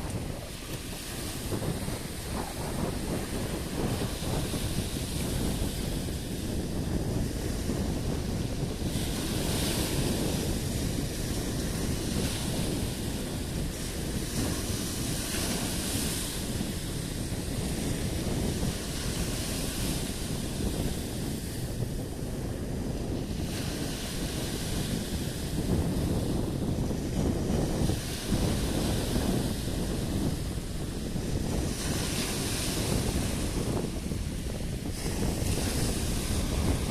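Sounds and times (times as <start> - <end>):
waves breaking on shore: 0.0 - 36.9
wind buffeting microphone: 0.0 - 36.9.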